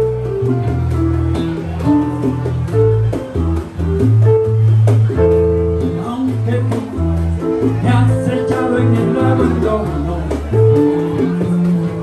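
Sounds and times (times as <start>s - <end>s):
bass guitar plucking low notes: 0.0s - 12.0s
live band music: 0.0s - 12.0s.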